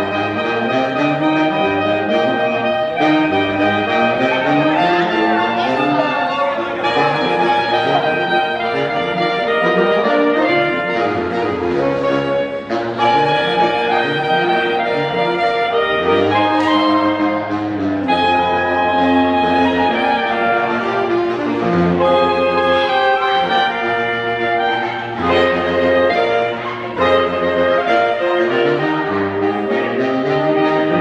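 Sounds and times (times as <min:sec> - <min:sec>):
saxophone quartet playing: 0:00.0 - 0:31.0.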